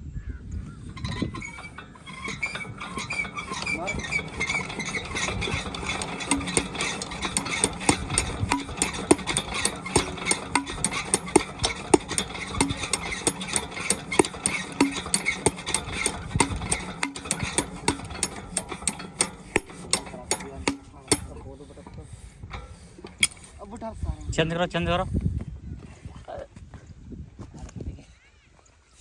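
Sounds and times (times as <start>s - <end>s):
diesel pump engine knocking: 0.8s - 25.3s.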